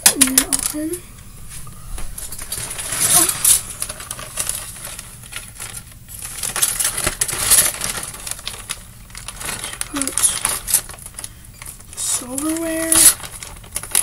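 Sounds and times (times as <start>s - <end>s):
small hard objects clattering: 0.0s - 1.0s, 2.2s - 14.0s
plastic packaging rustling: 0.0s - 14.0s.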